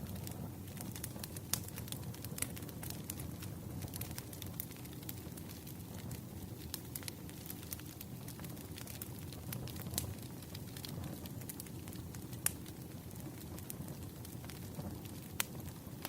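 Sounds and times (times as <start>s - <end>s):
firewood crackling and popping: 0.0s - 16.0s
low rumble of fire: 0.0s - 16.0s.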